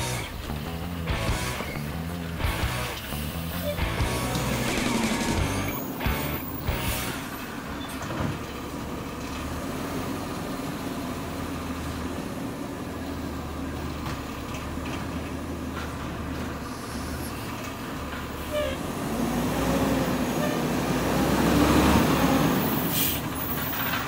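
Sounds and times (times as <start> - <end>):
truck engine idling: 0.0 - 19.3.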